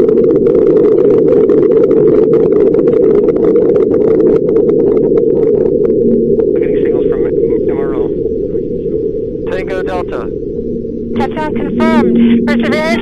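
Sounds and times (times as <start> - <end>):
low rumble with crackling: 0.0 - 13.0.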